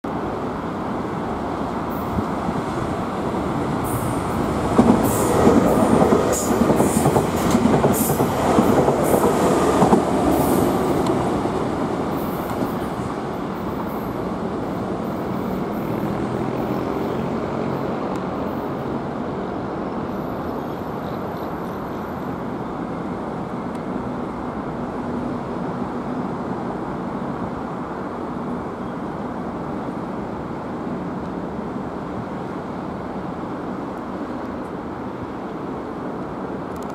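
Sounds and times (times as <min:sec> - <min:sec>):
electric train passing: 0:00.1 - 0:36.9.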